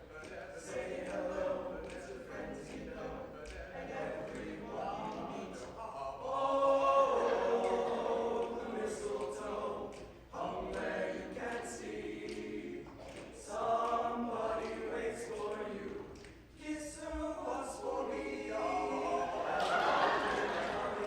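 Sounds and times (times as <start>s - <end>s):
choir singing: 0.0s - 21.0s.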